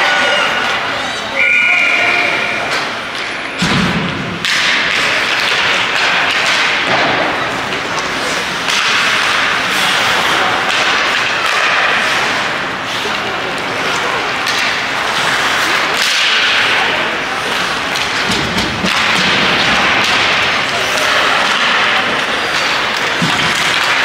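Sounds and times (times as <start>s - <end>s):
hockey sticks and puck clacking: 2.4s - 24.0s.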